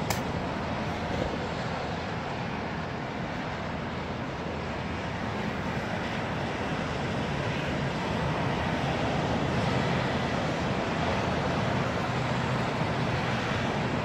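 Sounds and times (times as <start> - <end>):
rushing noise with low rumble: 0.0 - 14.0.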